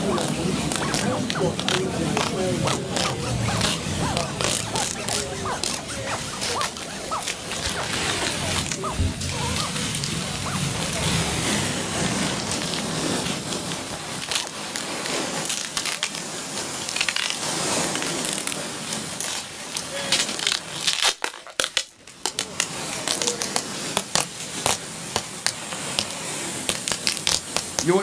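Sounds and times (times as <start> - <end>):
dense crackling and crunching: 0.0 - 28.0.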